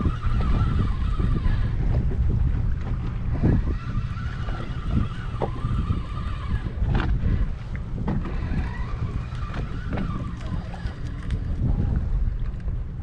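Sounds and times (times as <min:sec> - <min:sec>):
fishing reel whirring: 0:00.0 - 0:07.4, 0:08.2 - 0:12.0
wind buffeting microphone: 0:00.0 - 0:13.0.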